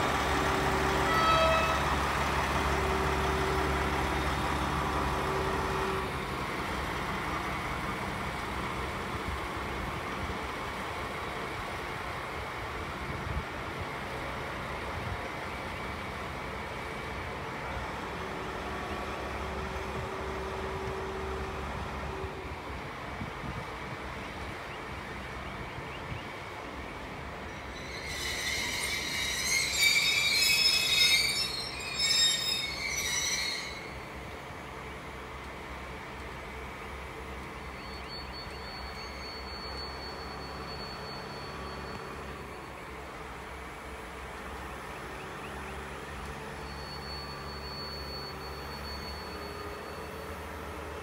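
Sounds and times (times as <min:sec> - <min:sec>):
train wheels squealing on rails: 0:00.0 - 0:22.8, 0:23.5 - 0:35.4, 0:36.6 - 0:51.0
diesel locomotive engine running: 0:00.0 - 0:51.0.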